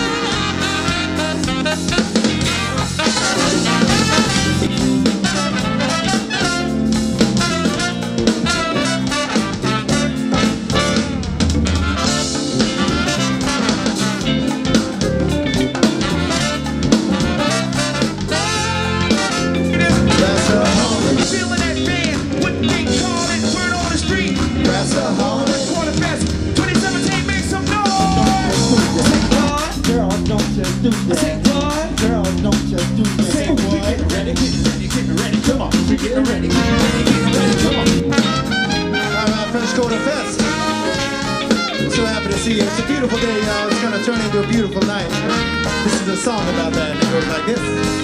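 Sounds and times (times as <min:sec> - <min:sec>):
brass band playing funk: 0:00.0 - 0:48.0.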